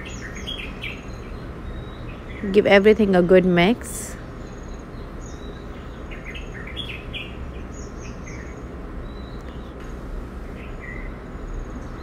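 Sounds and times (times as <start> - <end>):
low background hum: 0.0 - 12.0
small birds chirping: 0.0 - 12.0.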